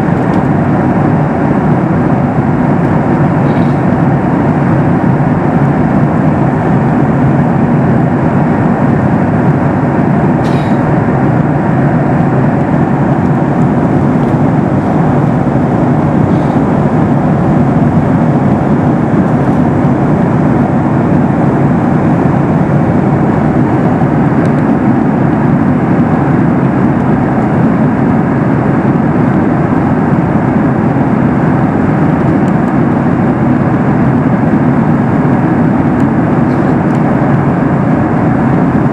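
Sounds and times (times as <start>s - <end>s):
airplane cabin engine roar: 0.0s - 38.9s.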